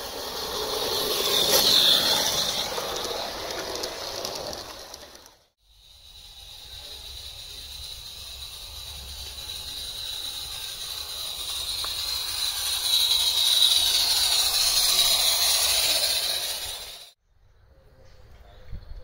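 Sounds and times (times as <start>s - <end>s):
model steam locomotive hissing: 0.0s - 17.2s.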